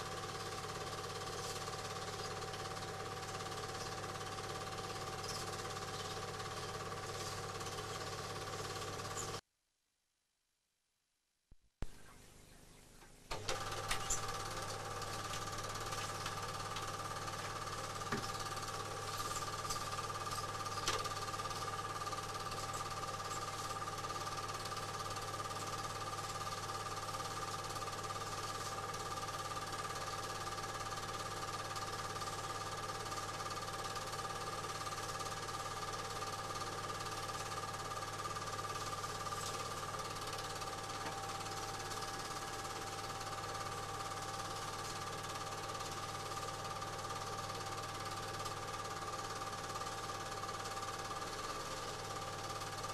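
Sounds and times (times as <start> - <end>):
film projector whirring: 0.0 - 9.4, 13.1 - 52.9.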